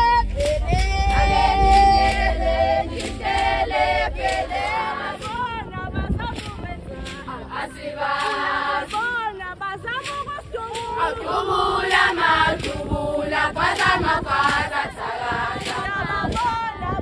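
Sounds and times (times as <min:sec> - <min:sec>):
sharp percussive beats: 0:00.0 - 0:16.6
women singing in chorus: 0:00.0 - 0:17.0.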